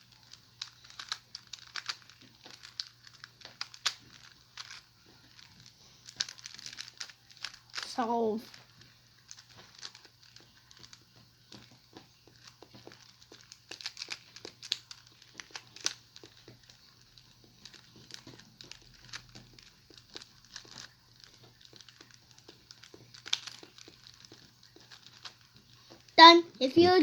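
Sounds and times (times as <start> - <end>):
puzzle cube clicking and rattling: 0.0 - 27.0.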